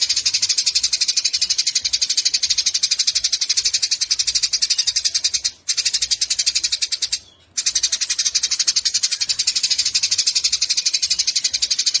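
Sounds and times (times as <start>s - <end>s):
sparrow chirping: 0.0s - 12.0s.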